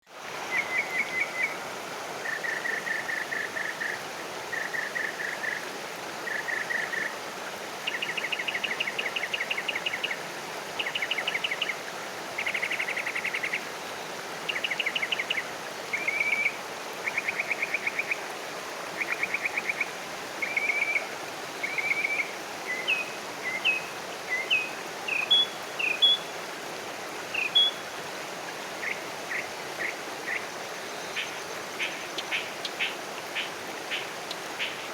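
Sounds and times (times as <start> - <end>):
outdoor background hiss: 0.0 - 34.9.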